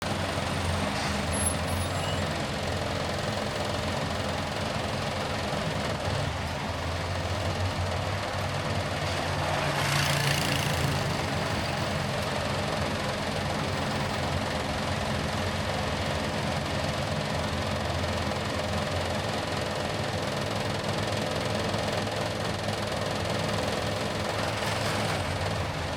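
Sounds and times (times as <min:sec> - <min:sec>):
road noise: 0:00.0 - 0:25.9.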